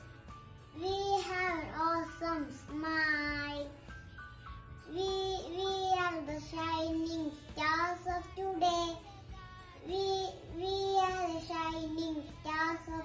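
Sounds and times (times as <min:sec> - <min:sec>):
girl singing: 0:00.7 - 0:13.0.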